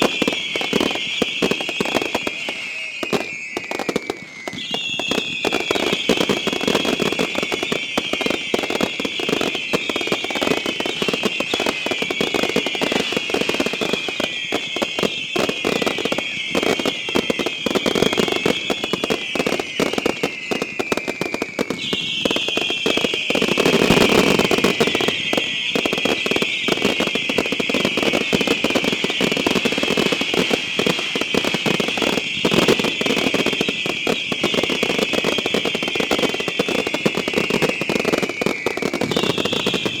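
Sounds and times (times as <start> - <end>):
firework bangs: 0.0 - 40.0
firework whistles: 0.0 - 40.0
fireworks crackling and popping: 0.0 - 40.0.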